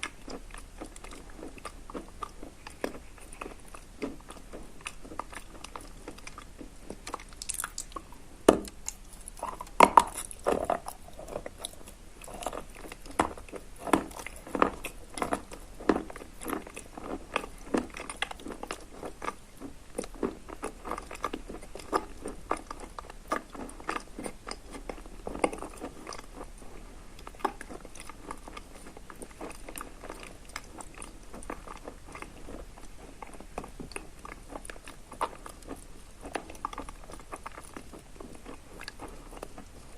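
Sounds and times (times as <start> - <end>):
wet crunchy chewing: 0.0 - 39.9.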